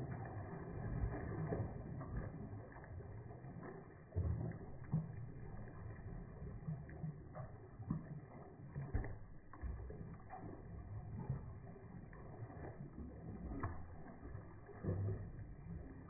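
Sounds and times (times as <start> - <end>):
dog splashing in pool water: 0.0 - 16.0.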